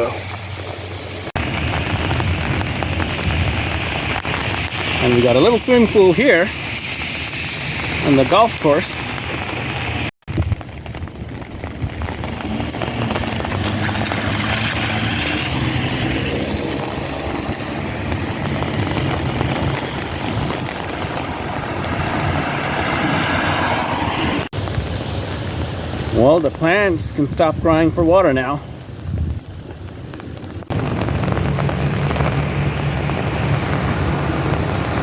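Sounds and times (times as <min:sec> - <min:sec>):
light rain falling: 0:00.0 - 0:35.0.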